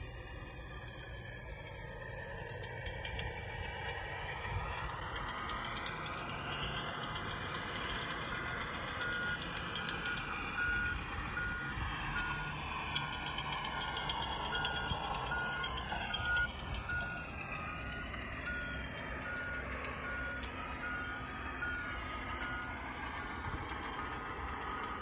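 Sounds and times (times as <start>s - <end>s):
engine rumble: 0.0s - 25.0s
vehicle reversing alarm beeping: 0.6s - 25.0s.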